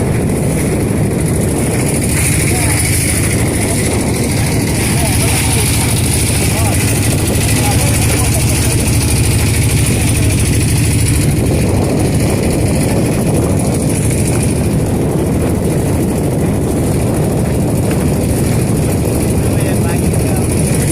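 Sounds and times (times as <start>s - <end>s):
engine running: 0.0s - 20.9s.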